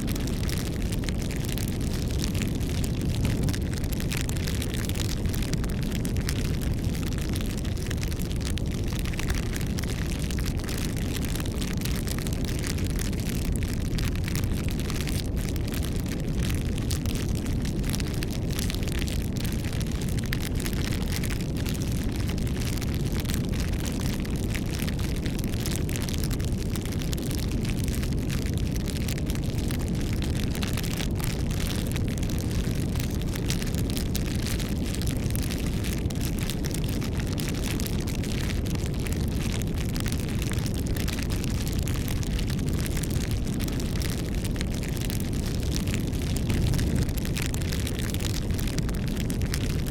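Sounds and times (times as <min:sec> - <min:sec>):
burning wood crackling and popping: 0:00.0 - 0:49.9
low rumble of flames: 0:00.0 - 0:49.9.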